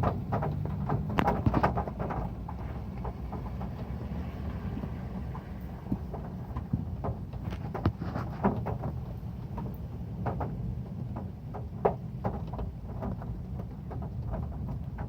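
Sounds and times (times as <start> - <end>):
heavy rain on a metal roof: 0.0 - 15.0
raindrops tapping metal: 0.0 - 15.0.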